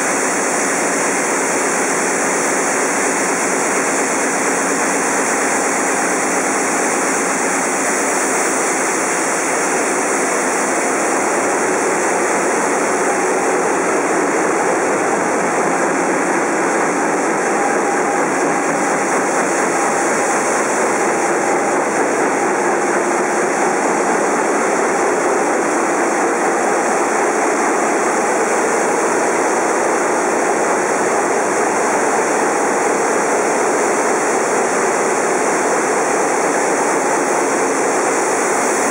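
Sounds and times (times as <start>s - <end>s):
engines and pumps roaring: 0.0s - 38.9s
faint steady whine: 0.0s - 38.9s.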